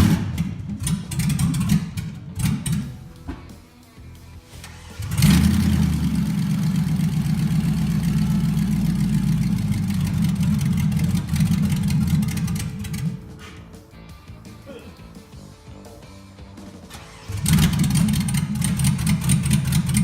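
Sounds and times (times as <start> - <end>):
car engine starting and running: 0.0 - 13.6, 16.8 - 20.0.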